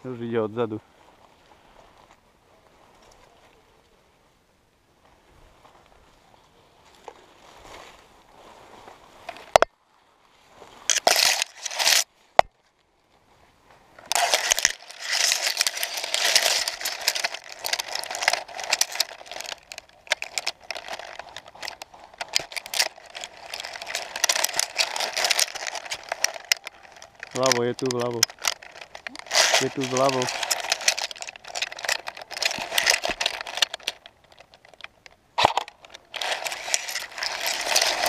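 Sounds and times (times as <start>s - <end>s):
pine branches rustling and crackling: 0.1s - 4.1s, 5.0s - 38.0s.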